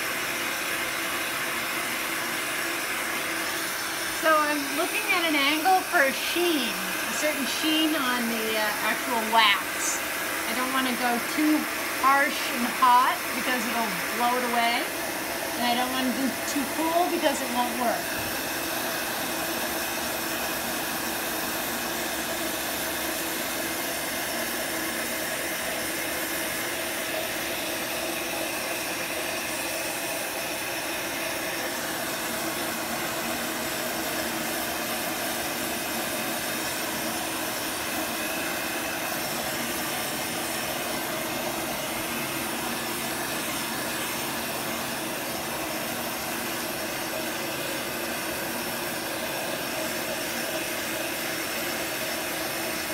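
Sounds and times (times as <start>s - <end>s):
heat gun blowing: 0.0s - 52.9s.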